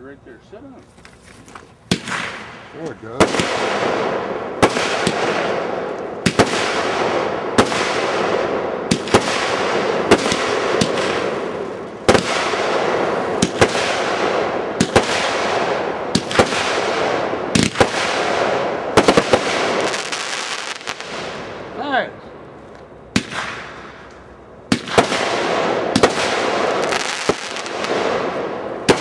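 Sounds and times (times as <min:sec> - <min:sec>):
firework bangs: 0:01.0 - 0:22.5, 0:23.1 - 0:29.0.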